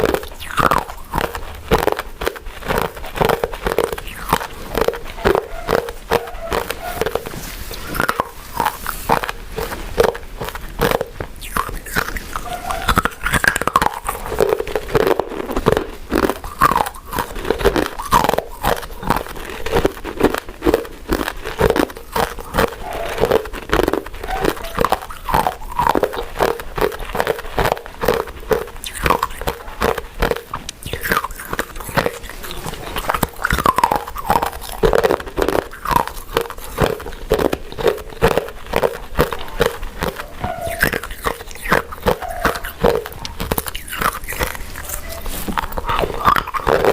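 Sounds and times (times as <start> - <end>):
chewing with wet mouth smacks: 0.0 - 46.9.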